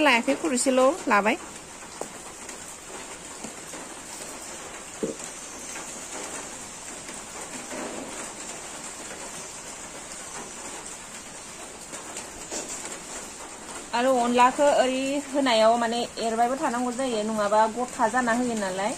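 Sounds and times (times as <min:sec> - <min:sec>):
curry bubbling hiss: 0:00.0 - 0:18.9.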